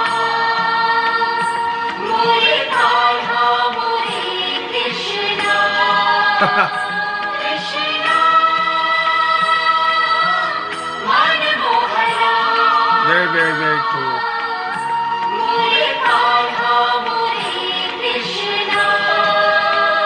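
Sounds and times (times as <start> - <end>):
group singing a chant: 0.0 - 10.2, 11.0 - 20.0.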